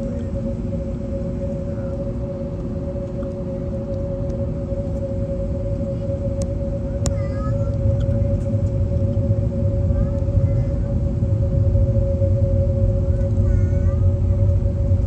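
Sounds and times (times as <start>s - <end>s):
airplane cabin rumble: 0.0s - 15.0s
constant hum tone: 0.0s - 15.0s.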